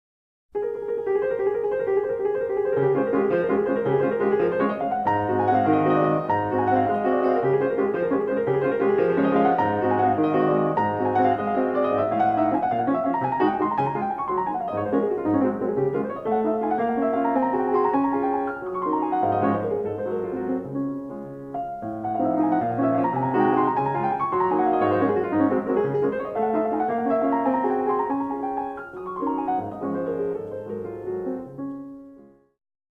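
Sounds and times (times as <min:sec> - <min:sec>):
solo piano music: 0:00.6 - 0:32.6.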